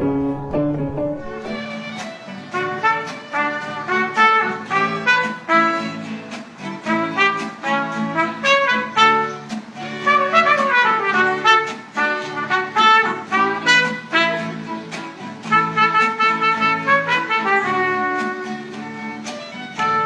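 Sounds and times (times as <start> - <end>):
upbeat brass music: 1.4 - 20.0.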